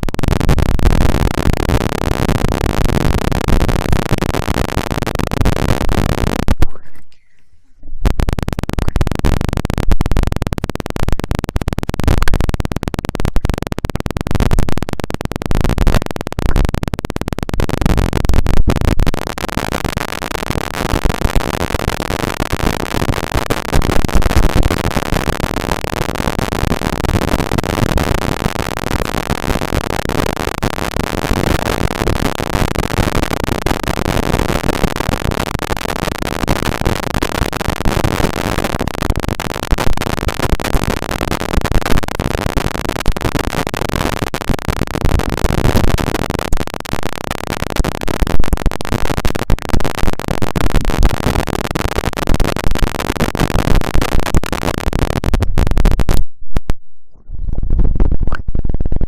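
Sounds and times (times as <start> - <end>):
crackling and scratching on microphone: 0.0 - 59.0.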